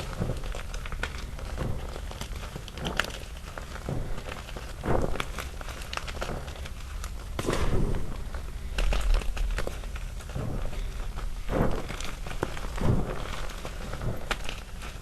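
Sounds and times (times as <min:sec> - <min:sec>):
chalk snapping and crackling: 0:00.0 - 0:15.0.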